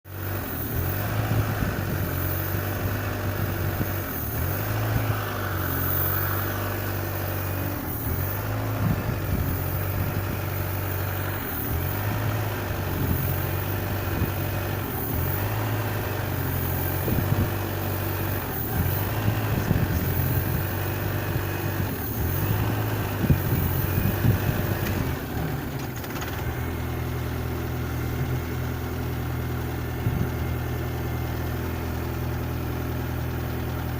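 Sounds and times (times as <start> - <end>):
car engine rough idle: 0.1 - 33.9.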